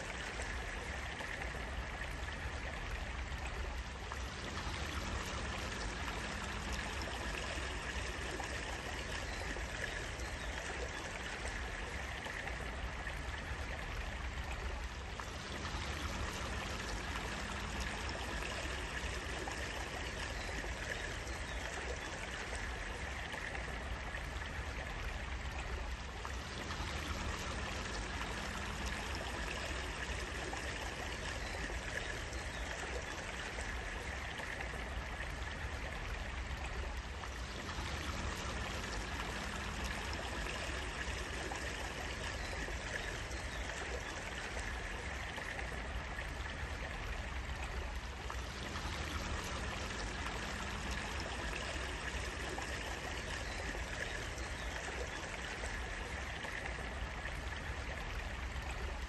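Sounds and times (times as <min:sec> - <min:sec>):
water trickling in small stream: 0:00.0 - 0:59.0.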